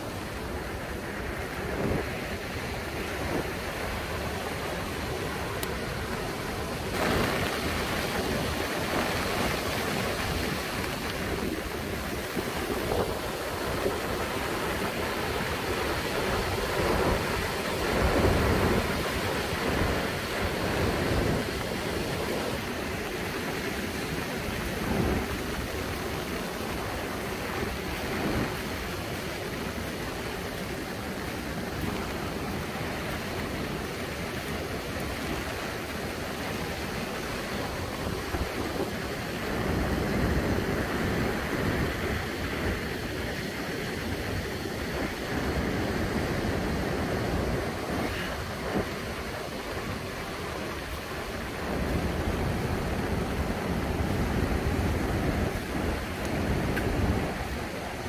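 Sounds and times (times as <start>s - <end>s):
surf breaking on sandy beach: 0.0s - 58.0s.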